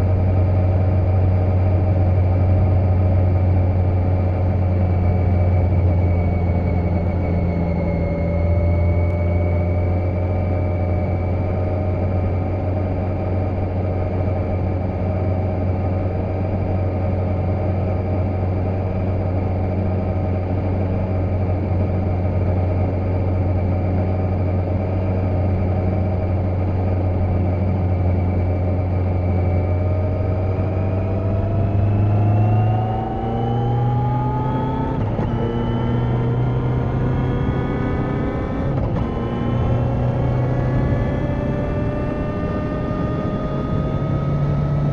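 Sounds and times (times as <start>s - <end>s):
motorcycle engine accelerating: 0.1s - 44.9s.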